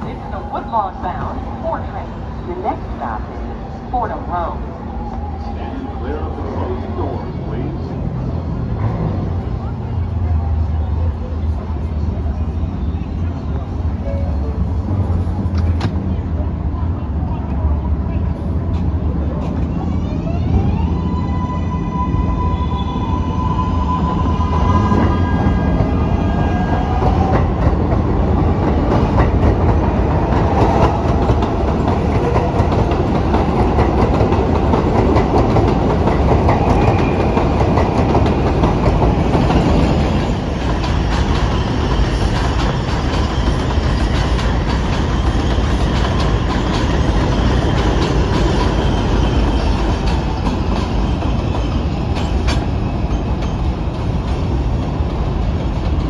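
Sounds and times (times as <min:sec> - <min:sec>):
subway train wheels rumbling: 0:00.0 - 0:56.0.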